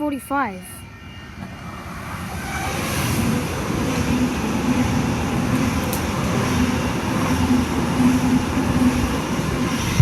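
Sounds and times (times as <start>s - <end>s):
electric train running through station: 0.0s - 10.0s.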